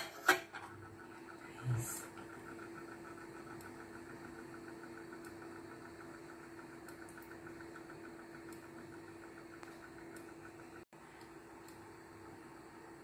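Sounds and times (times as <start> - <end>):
faint mechanical hum: 0.0 - 13.0.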